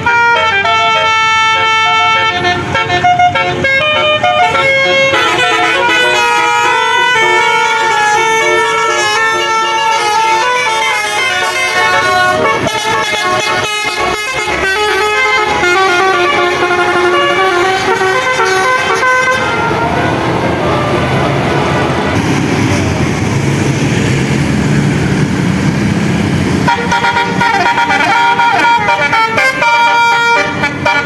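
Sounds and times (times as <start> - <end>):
bus musical horn melody: 0.0 - 22.2, 26.6 - 31.0
bus engine rumble: 0.0 - 31.0.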